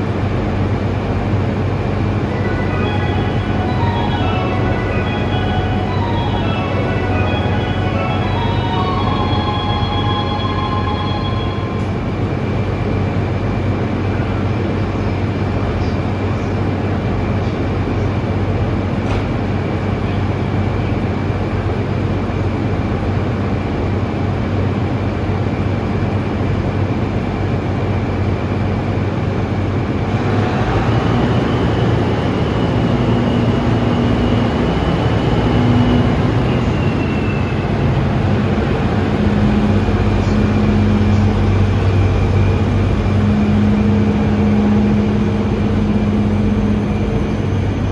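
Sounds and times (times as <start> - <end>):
diesel locomotive engine idling: 0.0 - 47.9.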